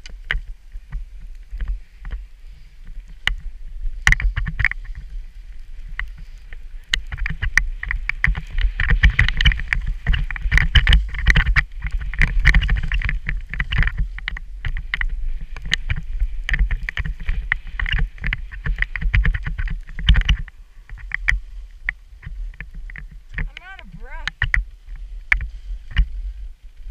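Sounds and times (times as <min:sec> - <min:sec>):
skis scraping over packed snow: 0:00.0 - 0:26.9
wind buffeting microphone: 0:00.0 - 0:26.9.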